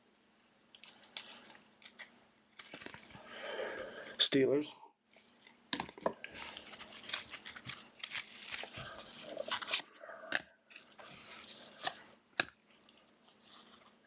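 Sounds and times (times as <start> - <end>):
plastic packaging rustling: 0.2 - 4.2, 5.1 - 14.0.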